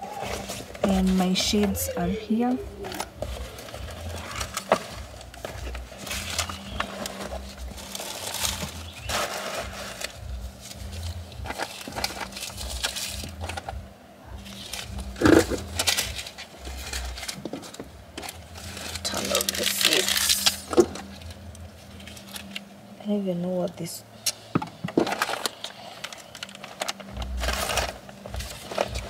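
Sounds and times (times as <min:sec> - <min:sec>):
small items rustling and clicking: 0:00.0 - 0:22.8, 0:23.7 - 0:29.0.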